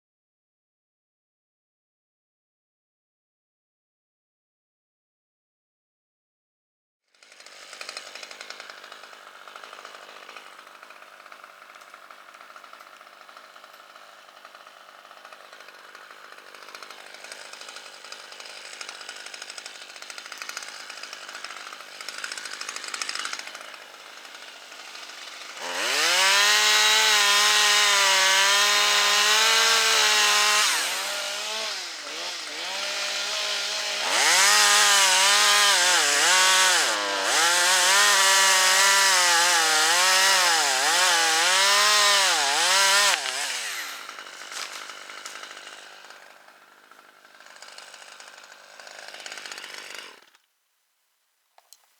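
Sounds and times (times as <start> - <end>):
chainsaw revving: 7.1 - 50.4.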